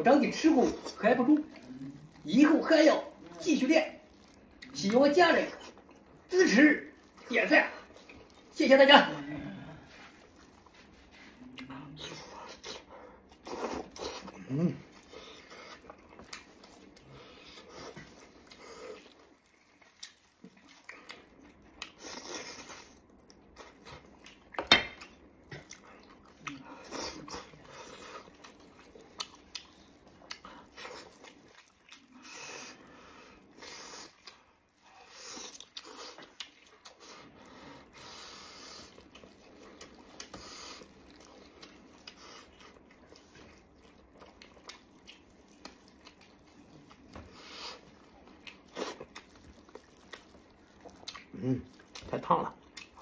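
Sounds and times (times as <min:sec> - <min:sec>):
wet squelching and tearing meat: 0:00.2 - 0:11.0, 0:15.7 - 0:34.8, 0:38.9 - 0:53.0
close chewing and lip smacking: 0:00.2 - 0:53.0.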